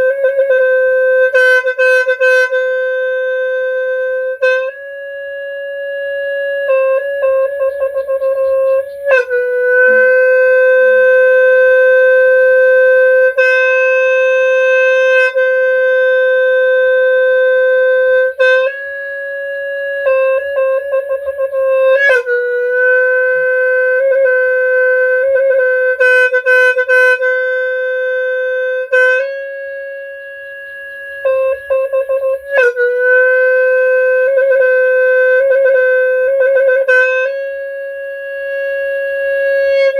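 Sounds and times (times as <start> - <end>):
free-reed horn long held notes: 0.0 - 39.9.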